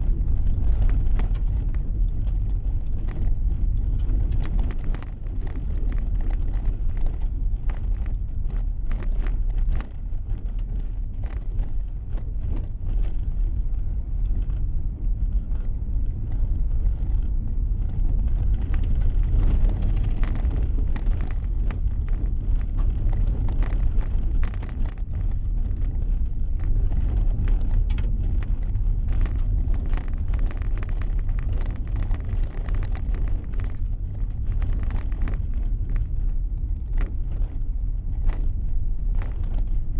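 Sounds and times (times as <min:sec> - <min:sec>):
car interior road rumble: 0:00.0 - 0:39.9
small irregular clicks: 0:00.0 - 0:39.9.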